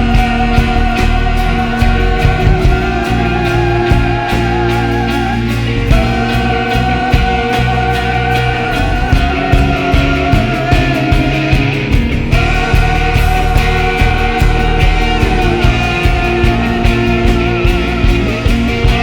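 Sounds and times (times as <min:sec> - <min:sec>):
band playing slow instrumental: 0:00.0 - 0:19.0
drums and bass pulsing: 0:00.0 - 0:19.0.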